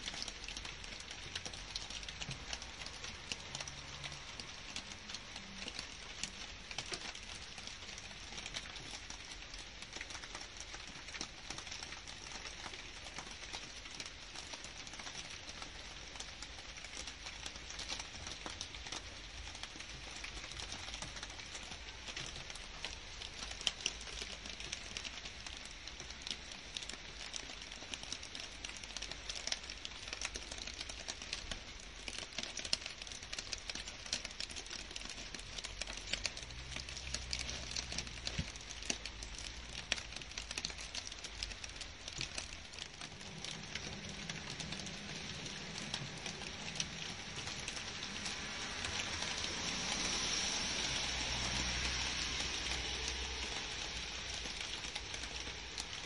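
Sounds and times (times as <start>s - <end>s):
rain falling on leaves: 0.0s - 56.0s
raindrops ticking: 0.0s - 56.0s.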